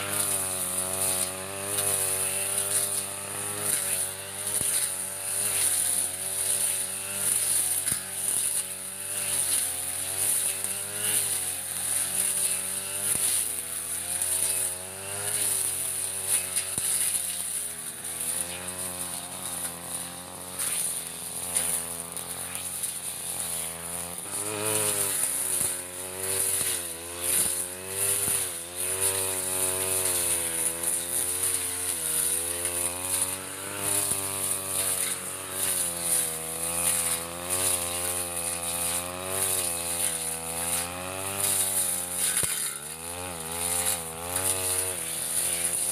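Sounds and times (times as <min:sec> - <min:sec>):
brush cutter engine cutting grass: 0:00.0 - 0:45.9.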